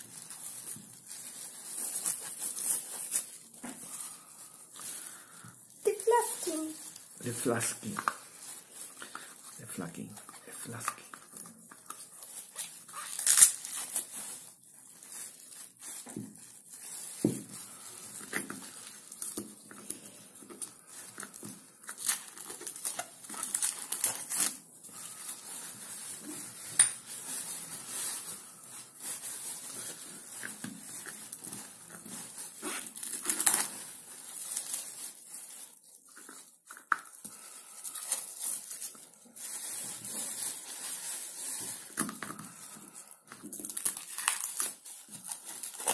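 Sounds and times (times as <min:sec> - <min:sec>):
cling film crinkling and tearing: 0:00.0 - 0:45.9.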